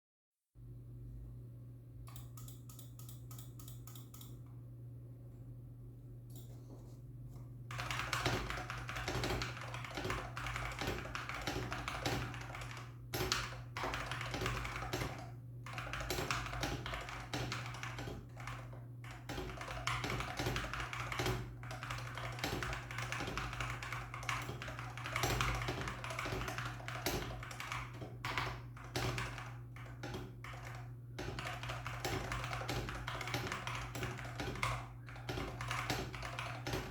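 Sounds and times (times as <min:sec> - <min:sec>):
steady low hum: 0:00.6 - 0:36.9
keyboard typing: 0:02.1 - 0:04.4, 0:07.7 - 0:36.9.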